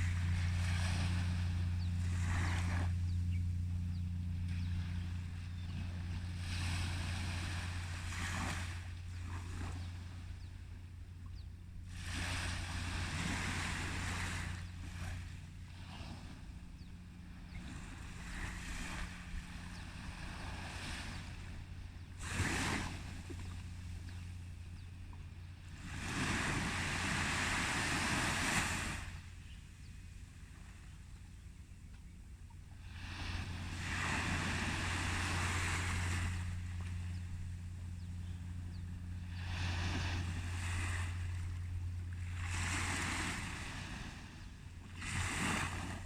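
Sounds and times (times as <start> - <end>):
sea waves breaking on a beach: 0.0 - 46.0
steady low hum: 0.0 - 46.0.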